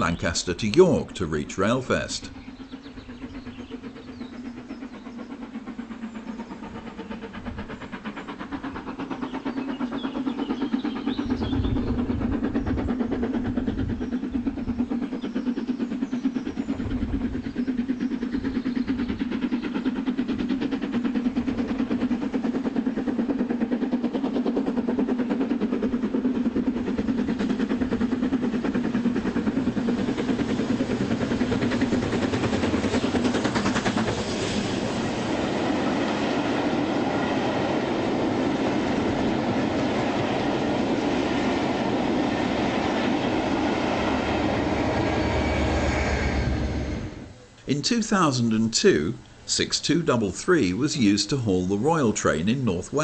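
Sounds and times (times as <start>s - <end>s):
steam locomotive drone: 0.0s - 53.0s.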